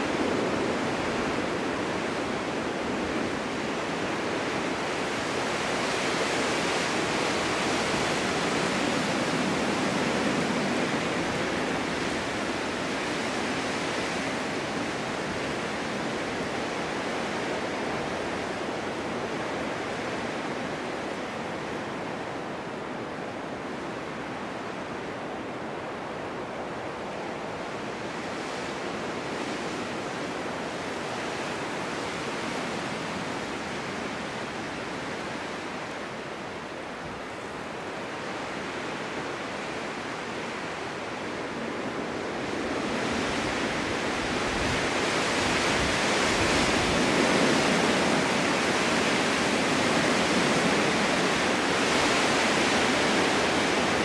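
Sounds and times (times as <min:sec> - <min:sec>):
wind blowing through trees: 0:00.0 - 0:54.0.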